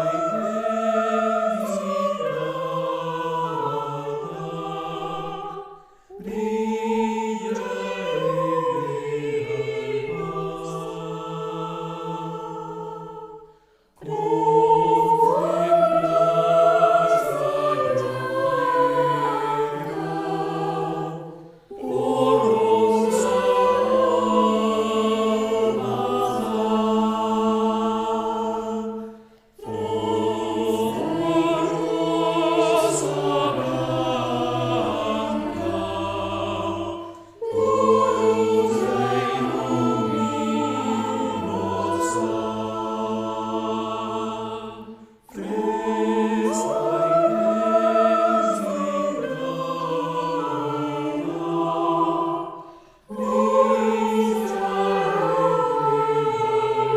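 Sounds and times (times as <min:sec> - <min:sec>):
mixed choir singing chords: 0:00.0 - 0:56.9.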